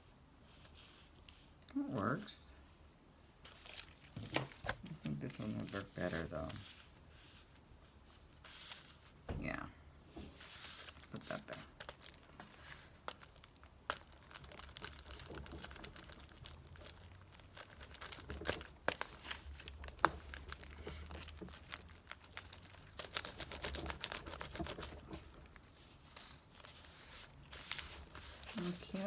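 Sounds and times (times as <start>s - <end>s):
paper rustling and crinkling: 3.4s - 9.3s, 10.2s - 29.0s.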